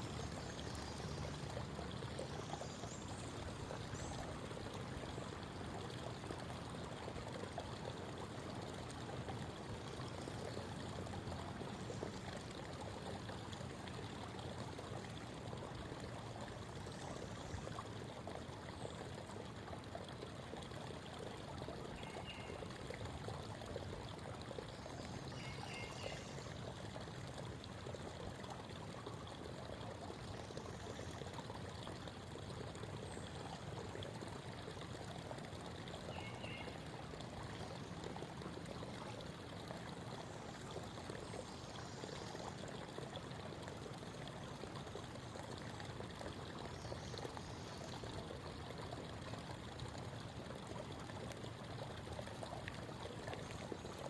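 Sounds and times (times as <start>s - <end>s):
creek babbling: 0.0s - 54.0s.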